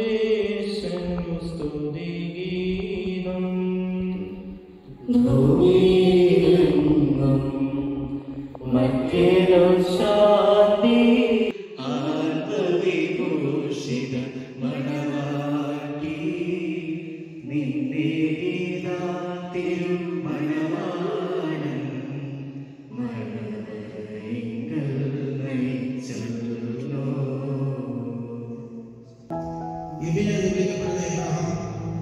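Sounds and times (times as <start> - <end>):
liturgical chant through microphone: 0.0 - 32.0.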